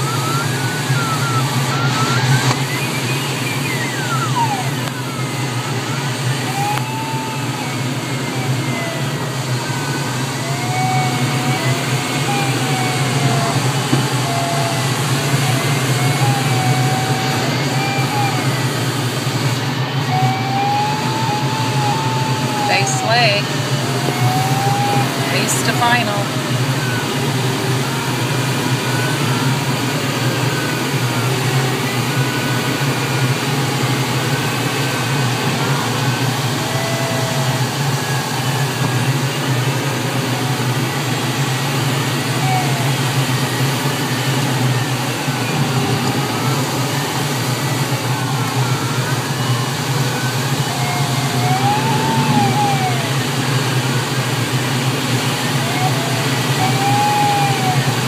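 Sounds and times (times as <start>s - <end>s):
air rushing around cockpit: 0.0s - 58.0s
faint wandering tones: 0.0s - 58.0s.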